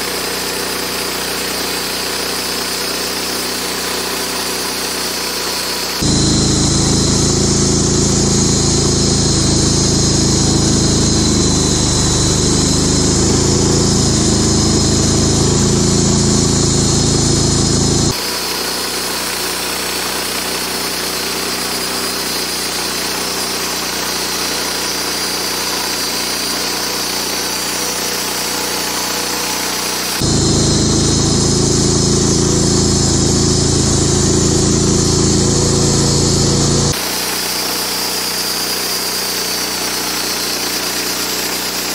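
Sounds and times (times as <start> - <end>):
saw blade hissing through wood: 0.0 - 41.9
sawmill engine running: 0.0 - 41.9.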